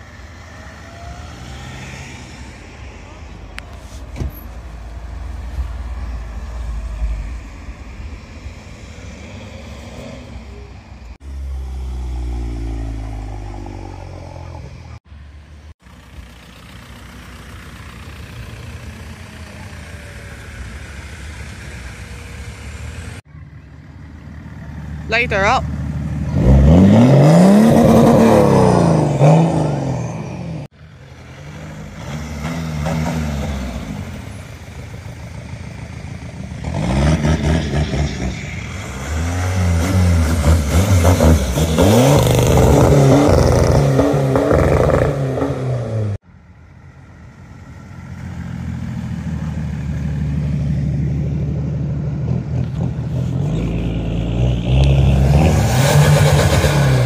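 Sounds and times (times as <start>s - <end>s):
car engines revving and accelerating: 0.0s - 46.2s, 46.8s - 57.0s.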